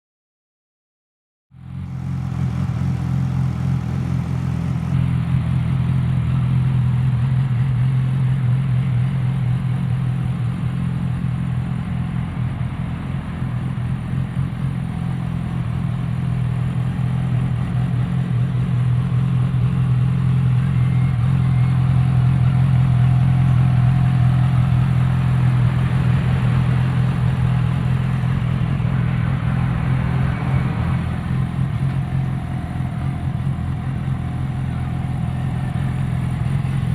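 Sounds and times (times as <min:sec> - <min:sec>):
motorcycle engine idling: 0:01.6 - 0:36.9.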